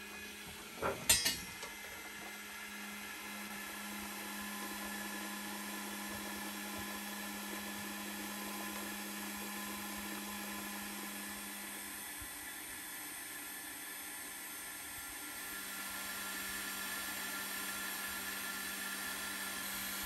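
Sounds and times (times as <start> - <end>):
cream separator whirring: 0.0 - 12.4, 15.1 - 20.0.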